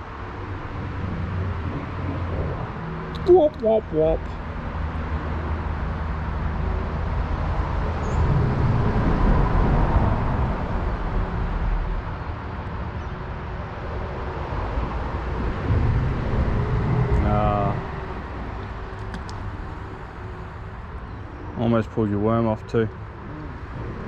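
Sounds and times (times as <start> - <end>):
faint engine hum: 0.0 - 24.0
road traffic rumble: 0.0 - 24.0.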